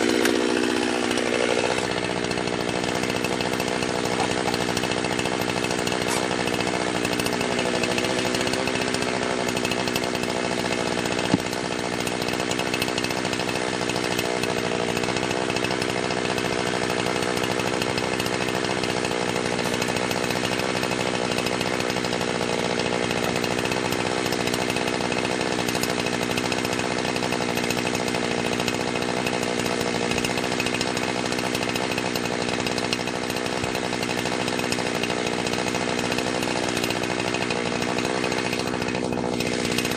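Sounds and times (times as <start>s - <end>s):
chainsaw running loudly: 0.0s - 39.9s.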